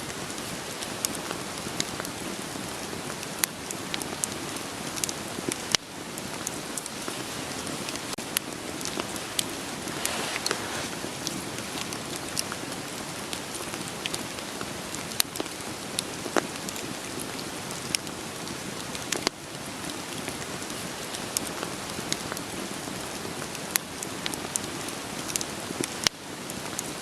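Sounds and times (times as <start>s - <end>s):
rain pattering: 0.0s - 27.0s
wood fire crackling and popping: 0.1s - 27.0s.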